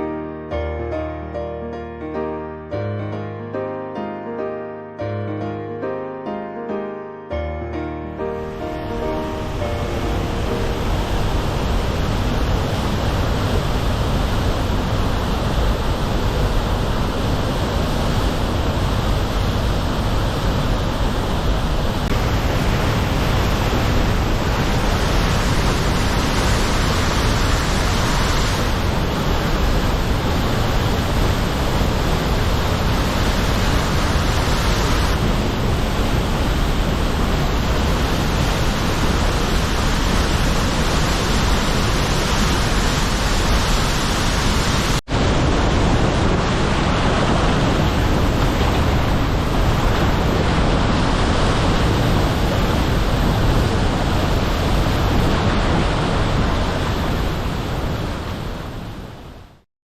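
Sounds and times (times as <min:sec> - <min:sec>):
waterfall rushing: 0:08.2 - 0:59.1.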